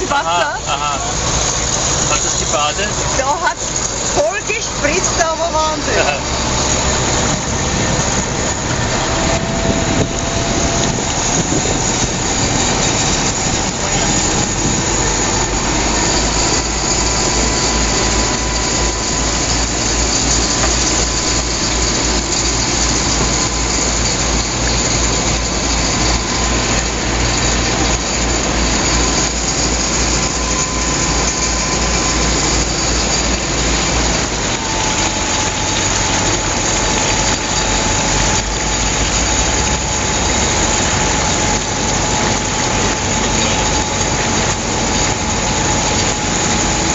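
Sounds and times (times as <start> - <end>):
car engine droning: 0.0 - 46.9.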